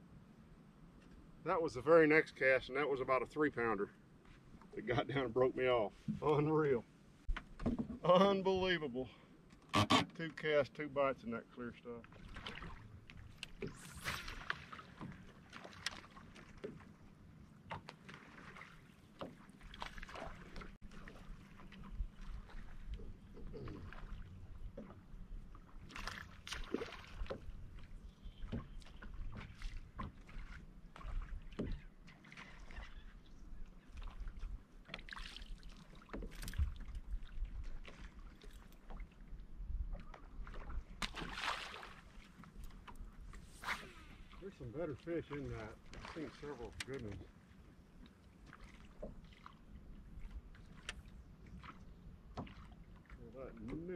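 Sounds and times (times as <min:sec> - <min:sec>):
small waves lapping against hull: 0:00.0 - 0:53.9.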